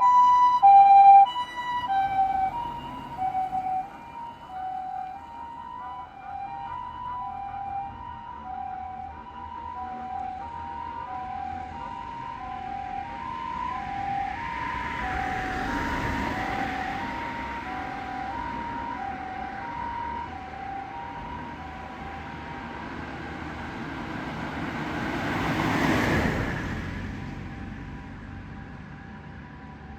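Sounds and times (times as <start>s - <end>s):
ambulance siren two-tone wail: 0.0s - 27.0s
road noise of passing vehicle: 0.0s - 29.9s.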